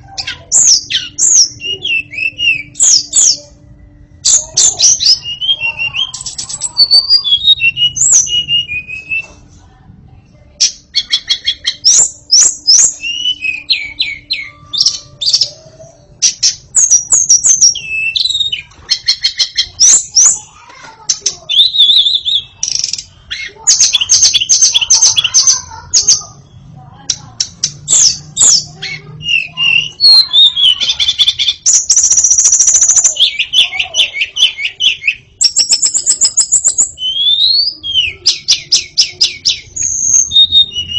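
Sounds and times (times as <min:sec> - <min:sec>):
songbird singing whistled phrases: 0:00.1 - 0:03.6, 0:04.2 - 0:09.4, 0:10.6 - 0:20.6, 0:21.2 - 0:40.9.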